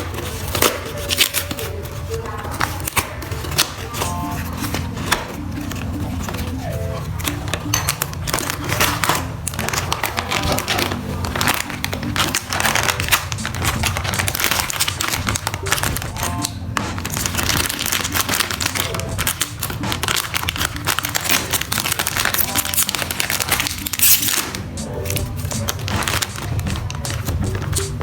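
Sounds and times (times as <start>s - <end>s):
plastic packaging crinkling: 0.0s - 28.0s
background music with bass line: 4.0s - 28.0s.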